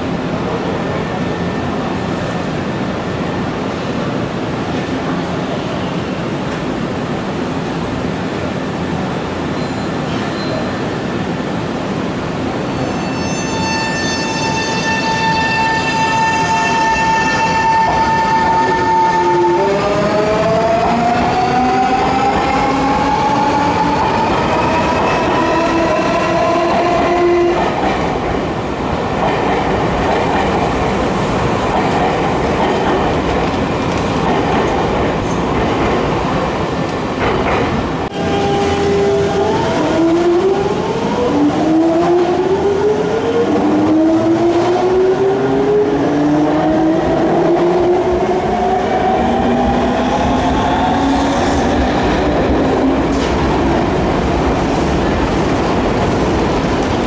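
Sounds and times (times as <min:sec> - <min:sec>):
train wheels on rails: 0:08.3 - 0:57.0.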